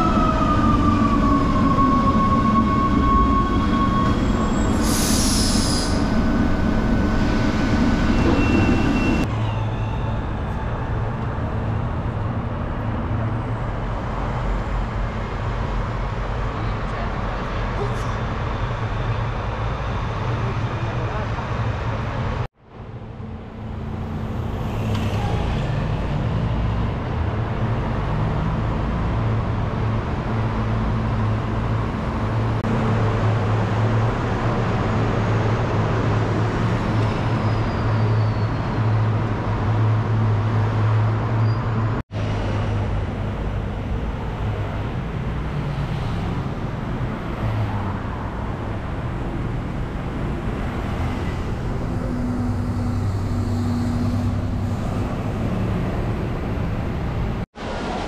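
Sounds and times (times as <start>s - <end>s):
buses and cars passing: 0.0s - 58.0s.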